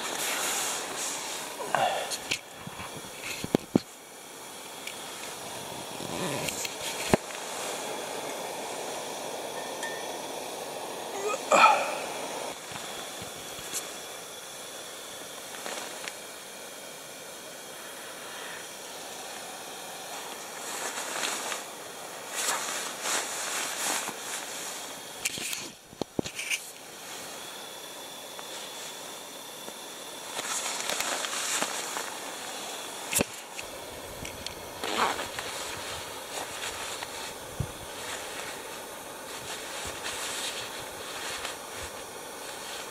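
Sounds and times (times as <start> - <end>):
gas burner hissing: 0.0 - 42.9.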